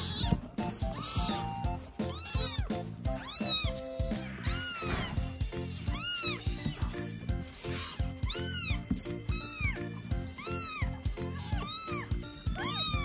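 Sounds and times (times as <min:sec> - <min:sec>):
background music with steady beat: 0:00.0 - 0:13.0
kittens mewing: 0:00.0 - 0:13.0.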